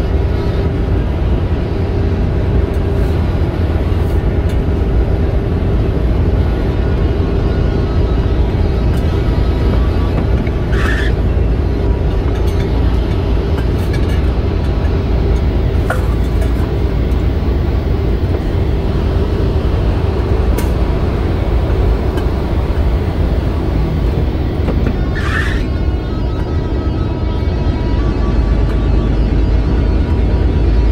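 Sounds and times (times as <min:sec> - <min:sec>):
truck cab road and engine noise: 0:00.0 - 0:30.9.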